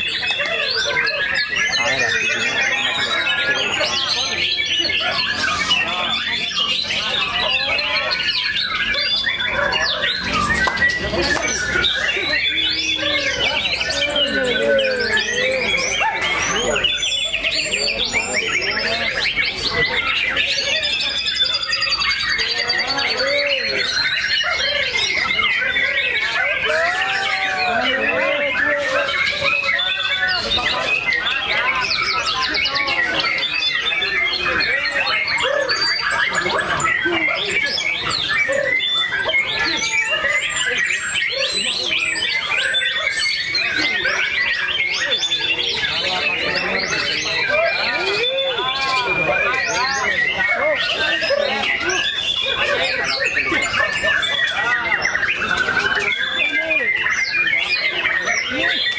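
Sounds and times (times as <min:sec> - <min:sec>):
birds singing whistles and trills: 0:00.0 - 0:58.9
people's voices: 0:00.0 - 0:58.9.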